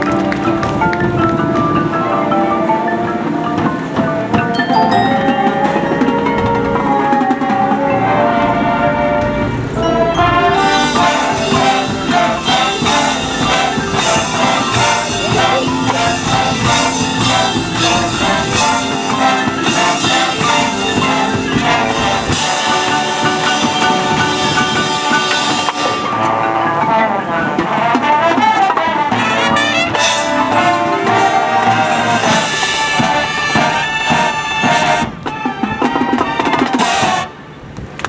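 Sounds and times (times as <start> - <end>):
marching band playing: 0.0 - 37.8
drumline: 0.0 - 38.0.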